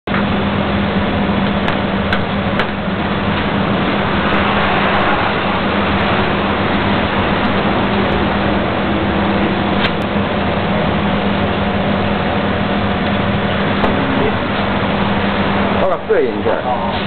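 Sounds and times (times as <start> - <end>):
steady mechanical hum: 0.1 - 17.0.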